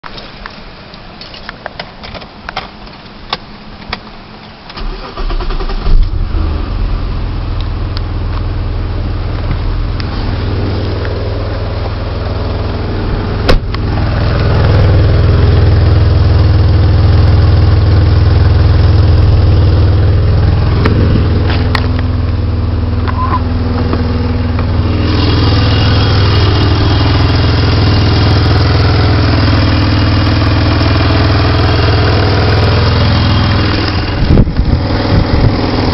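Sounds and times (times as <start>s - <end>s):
car engine cranking and idling: 0.0s - 35.9s.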